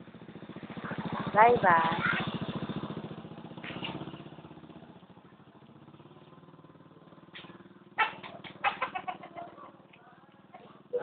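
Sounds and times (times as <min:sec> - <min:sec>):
small engine pulsing: 0:00.0 - 0:09.3.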